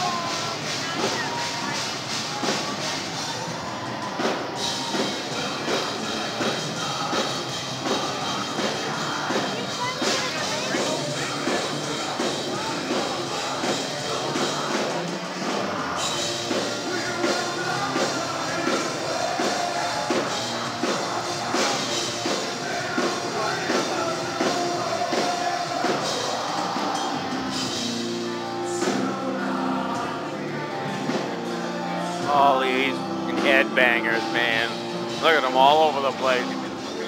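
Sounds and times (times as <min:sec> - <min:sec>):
distorted electric guitars: 0:00.0 - 0:37.0
pounding drum kit: 0:00.0 - 0:37.0
person singing: 0:04.7 - 0:37.0.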